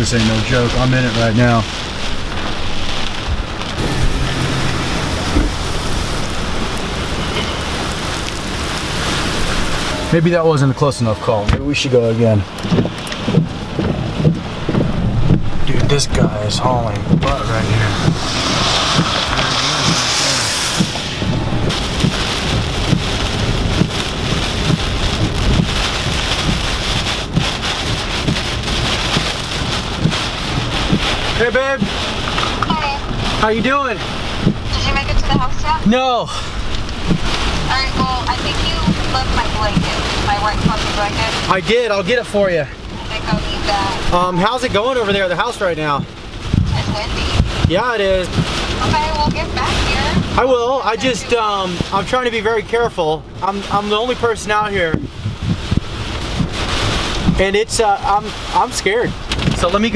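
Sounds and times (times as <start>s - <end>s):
dull low thumps: 0.0s - 10.6s, 11.4s - 50.4s, 51.2s - 59.9s
heavy rain on car roof: 0.0s - 59.9s
wind: 0.0s - 59.9s.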